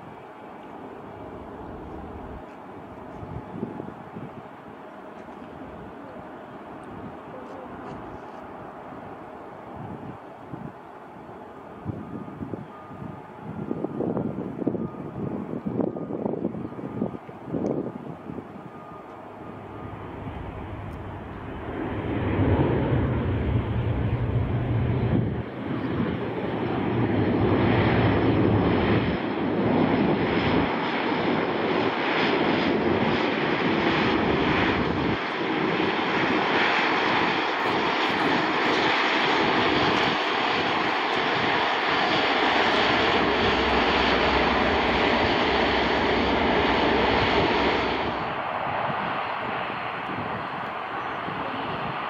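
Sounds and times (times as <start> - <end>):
turboprop engine and propeller noise: 0.0 - 52.0.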